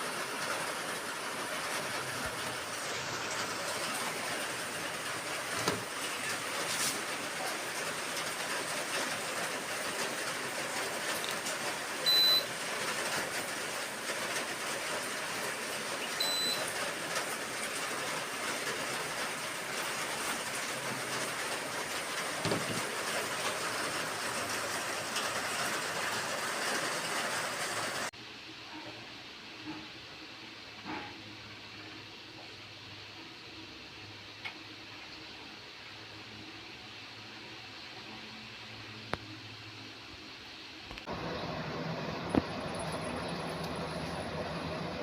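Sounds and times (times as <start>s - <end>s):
air conditioner hissing: 0.0s - 45.0s.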